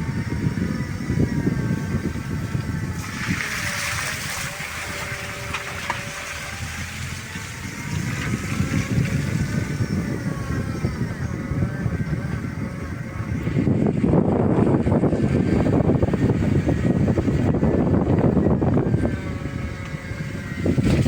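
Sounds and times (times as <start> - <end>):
motor humming: 0.0 - 21.0
wind rumble on microphone: 0.0 - 21.0.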